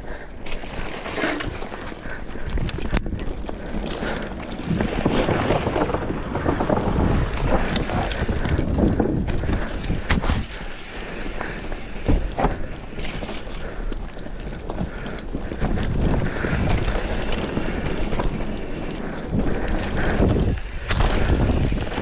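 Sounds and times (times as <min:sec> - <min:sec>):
tyres rumbling over dirt trail: 0:00.0 - 0:22.0
bike knocks and rattles: 0:00.4 - 0:10.8, 0:11.4 - 0:22.0
wind buffeting microphone: 0:01.5 - 0:13.0, 0:13.6 - 0:22.0.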